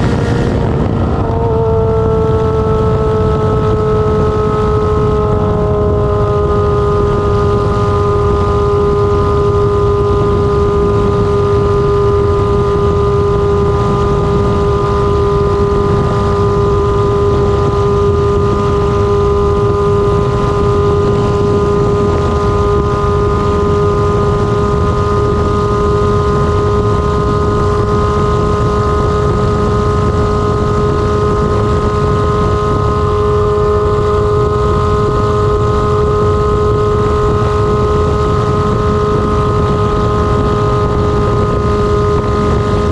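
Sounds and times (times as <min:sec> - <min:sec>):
motorcycle engine droning: 0:00.0 - 0:42.9
rumbling wind noise: 0:00.0 - 0:42.9.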